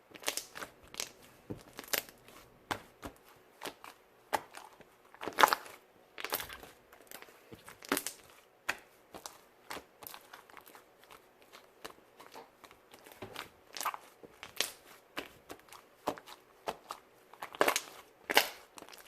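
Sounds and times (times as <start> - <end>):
slime popping and crackling: 0.1 - 19.0.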